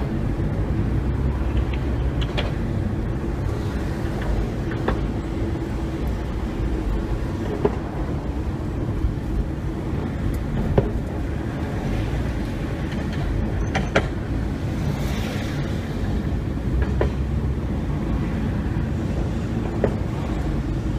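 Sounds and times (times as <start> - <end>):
streetcar rumbling: 0.0 - 20.9.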